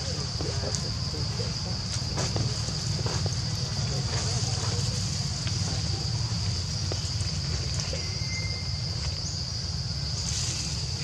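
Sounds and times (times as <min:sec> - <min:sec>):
constant low rumble: 0:00.0 - 0:11.0
high-pitched insect chorus: 0:00.0 - 0:11.0.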